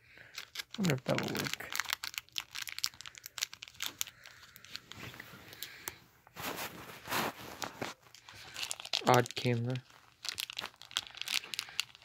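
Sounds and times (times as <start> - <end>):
plastic wrapper crinkling: 0.2 - 12.0.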